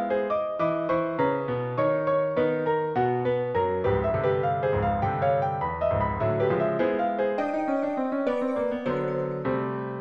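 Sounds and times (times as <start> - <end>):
piano and synthesizer music: 0.0 - 10.0.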